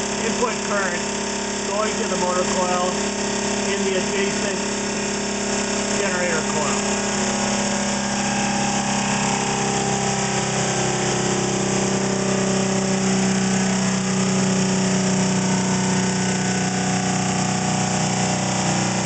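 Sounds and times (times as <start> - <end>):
electric motor humming and whining: 0.0 - 19.0.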